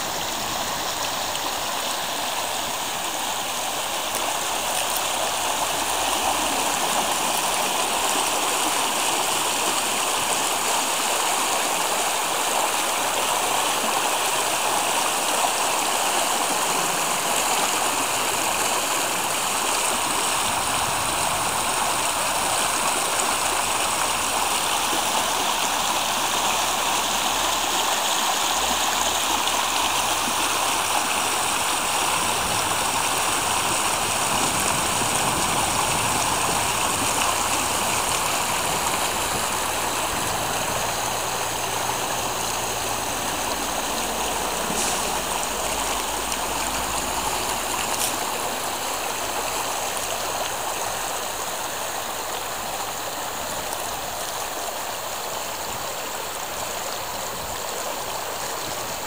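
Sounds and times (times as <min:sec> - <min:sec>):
stream rushing over stones: 0:00.0 - 0:59.0.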